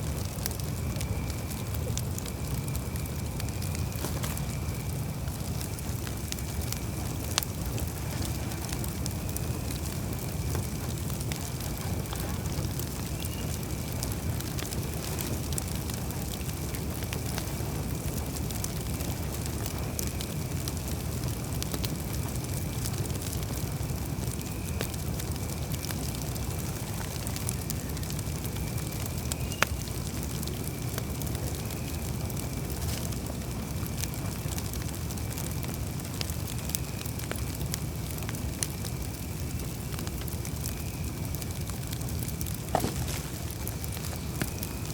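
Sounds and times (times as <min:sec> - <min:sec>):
campfire crackling: 0:00.0 - 0:44.9
low rumble of burning fire: 0:00.0 - 0:44.9
sharp fire pops: 0:00.0 - 0:44.9.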